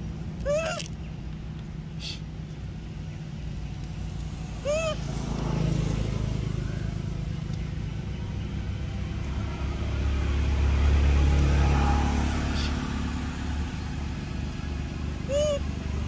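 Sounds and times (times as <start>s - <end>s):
motor vehicle engine rumble: 0.0s - 16.0s.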